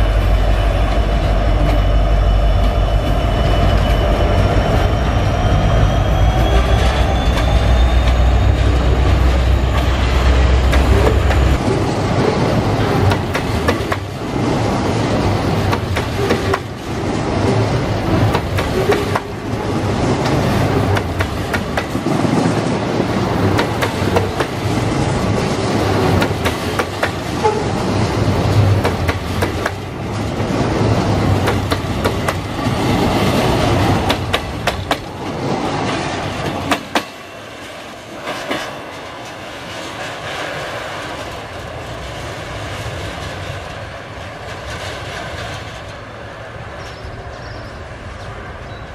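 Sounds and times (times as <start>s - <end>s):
train wagons rumbling past: 0.0s - 48.9s
wheels clattering over rail joints: 6.4s - 46.1s.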